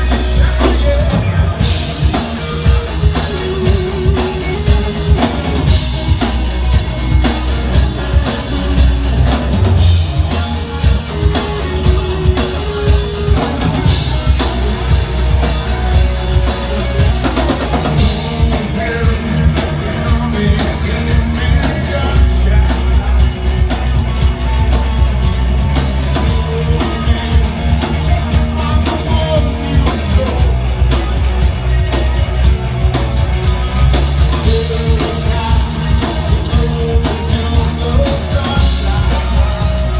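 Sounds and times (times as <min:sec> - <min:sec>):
drum kit beat: 0:00.0 - 0:39.9
live rock band playing: 0:00.0 - 0:39.9.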